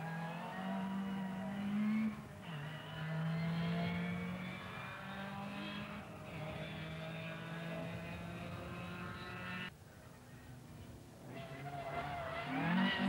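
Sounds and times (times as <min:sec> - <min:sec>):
rally car engine at high revs: 0:00.0 - 0:09.7, 0:11.2 - 0:13.0.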